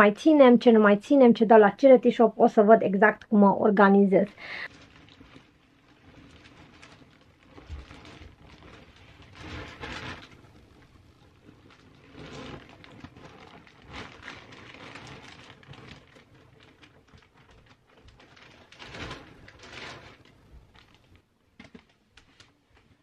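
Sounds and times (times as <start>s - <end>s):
fabric and plastic rustling: 3.2s - 23.0s.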